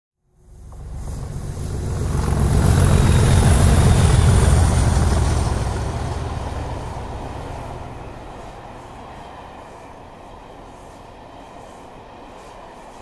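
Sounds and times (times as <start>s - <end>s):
train passing rumble: 0.2s - 13.0s.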